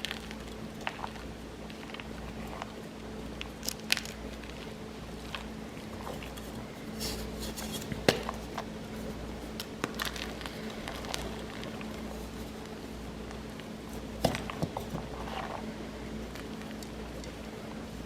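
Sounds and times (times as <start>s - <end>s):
chalk crunching and crackling: 3.4s - 18.0s.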